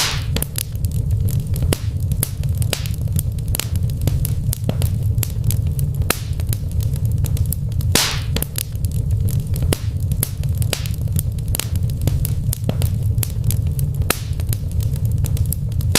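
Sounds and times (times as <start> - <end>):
fire crackling and popping: 0.0 - 15.9
fire hiss: 0.0 - 15.9.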